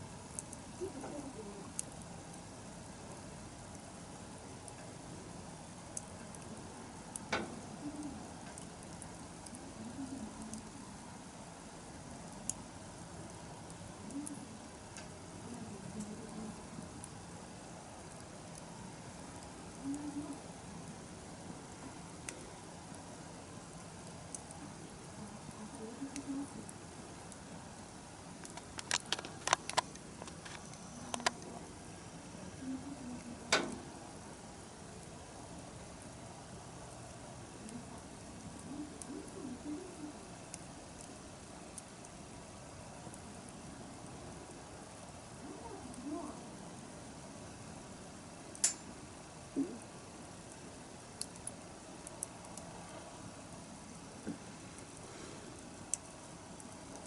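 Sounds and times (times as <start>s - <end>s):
bonfire crackling and popping: 0.0s - 57.0s
low fire hiss: 0.0s - 57.0s.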